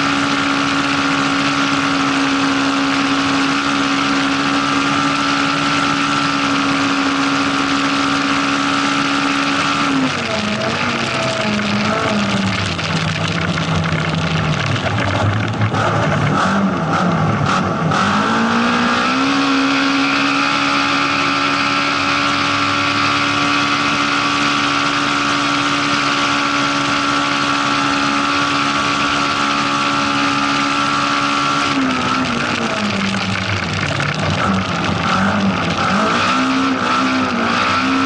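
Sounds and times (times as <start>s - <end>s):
rally car engine revving: 0.0s - 38.0s
road noise on dirt road: 0.0s - 38.0s.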